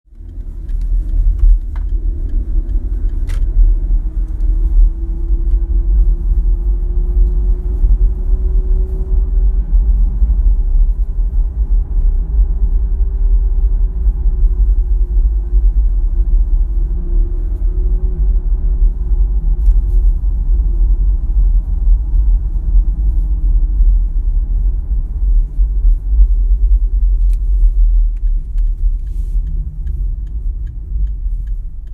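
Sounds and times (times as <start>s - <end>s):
car driving with low rumble: 0.0s - 31.9s.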